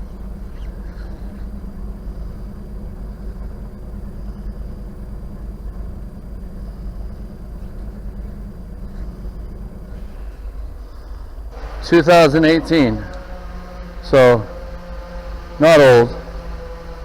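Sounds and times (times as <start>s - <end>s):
road traffic rumble overhead: 0.0s - 17.0s.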